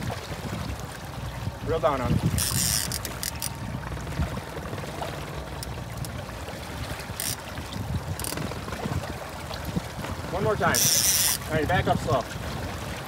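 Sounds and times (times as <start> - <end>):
water lapping: 0.0 - 13.0.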